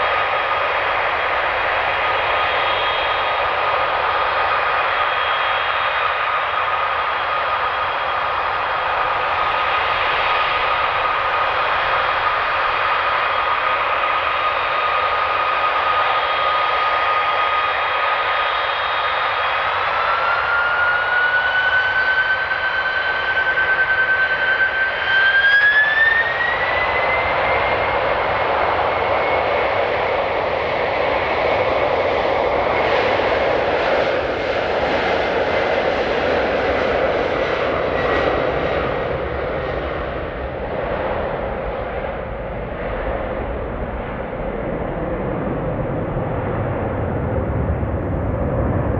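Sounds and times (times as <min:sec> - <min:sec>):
jet engines spooling up: 0:00.0 - 0:48.9.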